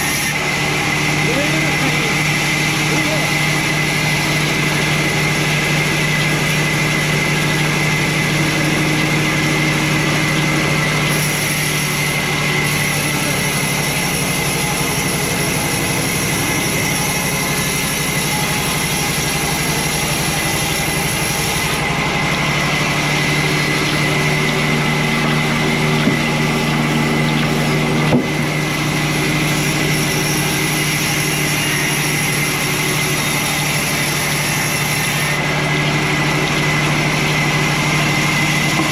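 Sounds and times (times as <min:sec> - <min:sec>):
high machine whine: 0:00.0 - 0:38.9
motor hum: 0:00.0 - 0:38.9.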